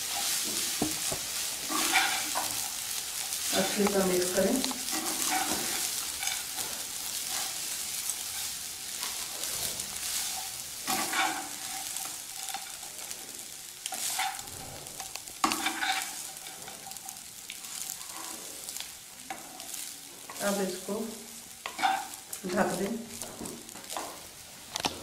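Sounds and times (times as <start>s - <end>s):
spatula scraping a pan: 0.0s - 20.7s, 21.4s - 24.3s
rice sizzling in a frying pan: 0.0s - 25.0s.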